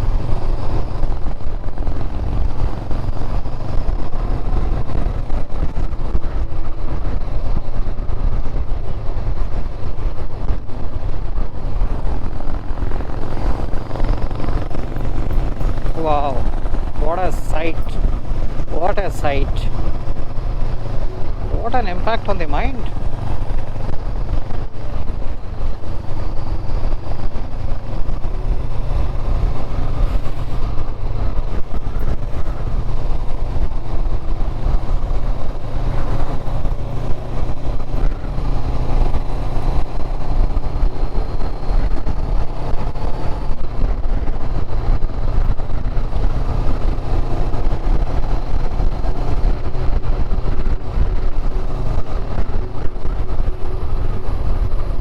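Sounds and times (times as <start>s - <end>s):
motorcycle engine running: 0.0s - 55.0s
road rumble: 0.0s - 55.0s
wind noise: 0.0s - 55.0s.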